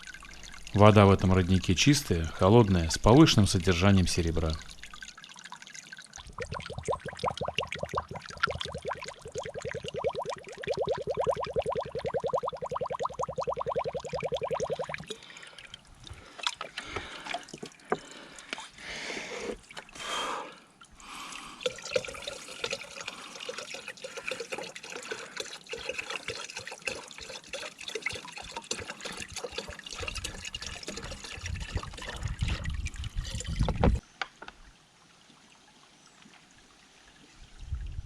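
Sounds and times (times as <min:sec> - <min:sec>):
water trickling and splashing: 0:00.0 - 0:38.0.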